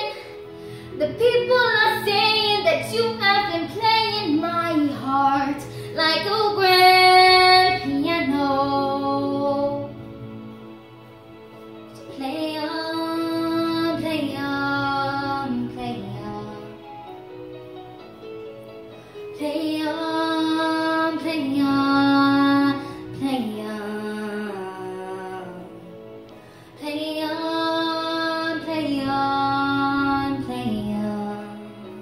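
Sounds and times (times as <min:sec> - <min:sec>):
girl singing a ballad: 0:00.0 - 0:10.1, 0:12.0 - 0:17.1, 0:19.0 - 0:32.0
backing track music: 0:00.0 - 0:32.0.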